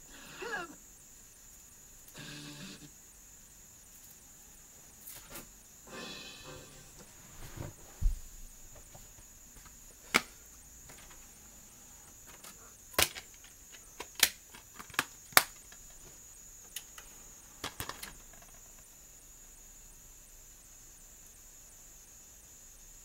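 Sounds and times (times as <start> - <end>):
faint high-pitched whine: 0.0 - 23.0.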